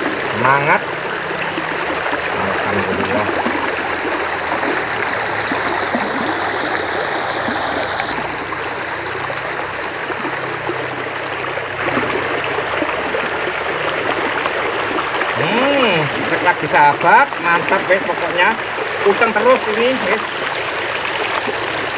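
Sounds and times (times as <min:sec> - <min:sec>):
river flowing over stones: 0:00.0 - 0:21.9.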